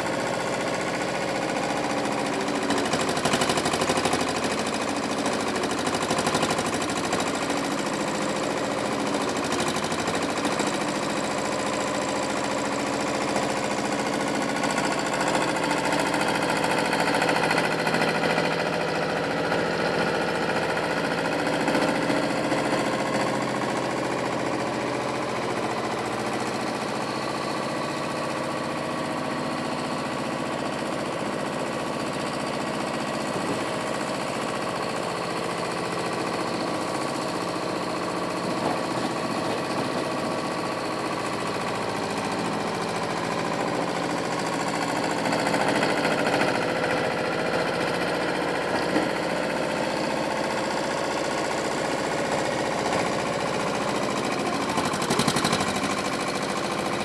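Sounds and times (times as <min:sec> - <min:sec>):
loader engine revving: 0:00.0 - 0:34.2, 0:35.2 - 0:57.0
diesel engines running: 0:00.0 - 0:57.0.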